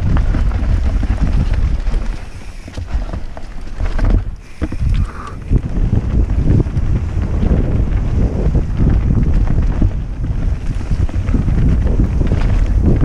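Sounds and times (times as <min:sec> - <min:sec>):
bike knocks and rattles: 0:00.0 - 0:13.0
tyres rumbling on dirt: 0:00.0 - 0:13.0
wind rushing over microphone: 0:00.0 - 0:13.0.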